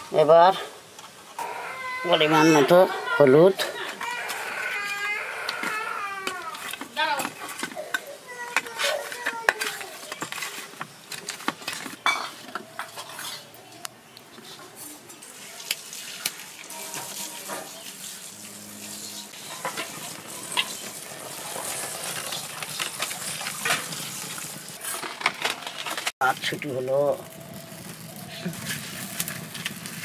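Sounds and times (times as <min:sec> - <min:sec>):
wood fire crackling and hissing: 0:00.0 - 0:30.0.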